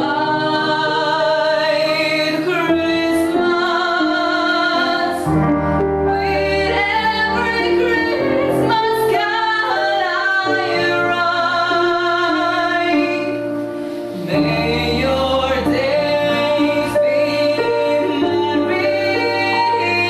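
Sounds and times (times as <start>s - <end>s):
vocal quartet singing in harmony: 0.0s - 20.0s.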